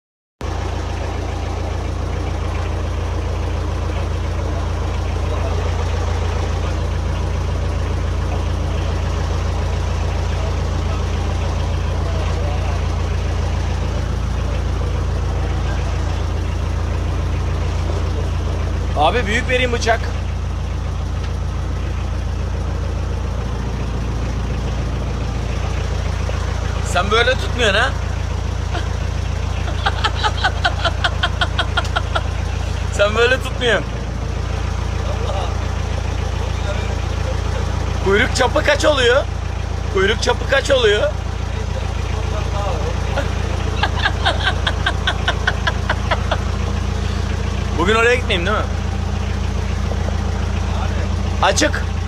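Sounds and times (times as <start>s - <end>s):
boat engine idling: 0.4s - 52.0s.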